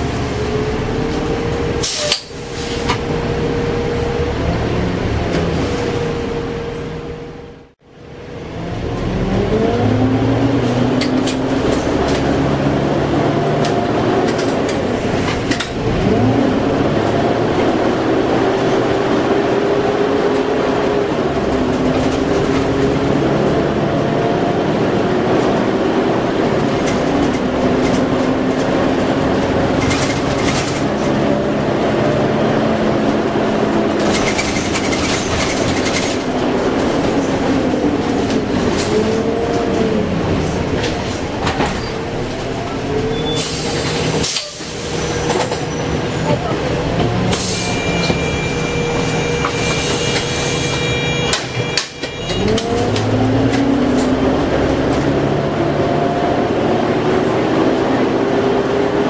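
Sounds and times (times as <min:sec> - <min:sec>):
bus diesel engine under load: 0:00.0 - 0:59.0.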